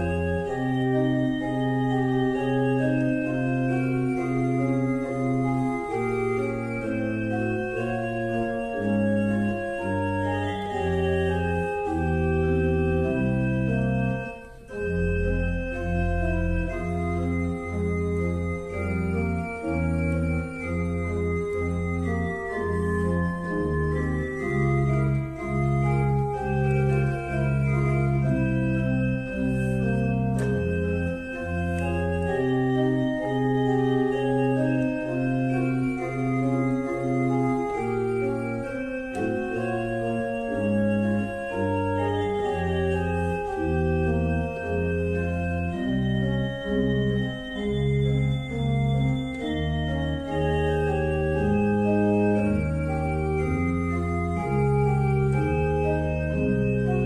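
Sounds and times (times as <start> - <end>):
organ chords: 0.0 - 57.0.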